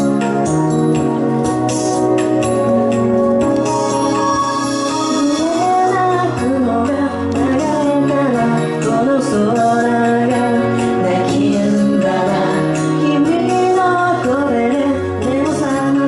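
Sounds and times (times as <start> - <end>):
upbeat pop song: 0.0 - 16.0.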